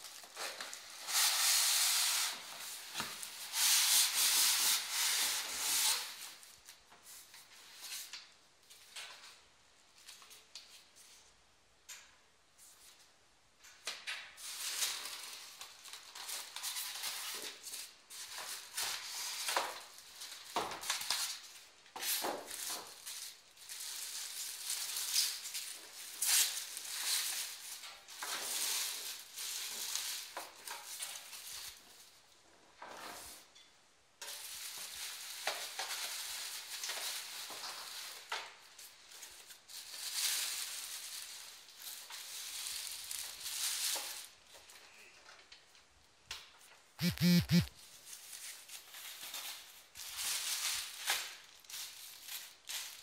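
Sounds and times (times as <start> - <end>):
plastic bag and paper crinkling: 0.0 - 10.9, 14.4 - 32.2, 34.2 - 44.9, 47.8 - 53.0.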